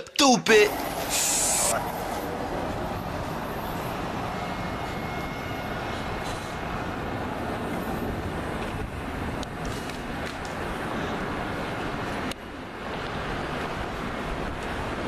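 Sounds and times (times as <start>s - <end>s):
city background rumble and hiss: 0.0s - 15.0s.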